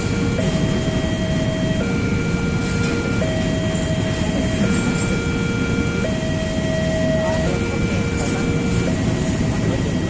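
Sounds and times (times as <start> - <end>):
passing train rumble: 0.0 - 10.0
two-tone level crossing alarm: 0.0 - 10.0.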